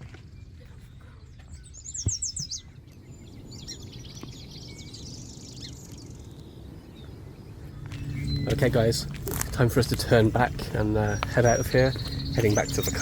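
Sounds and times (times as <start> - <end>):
low wind rumble: 0.0 - 13.0
small birds singing: 0.0 - 13.0.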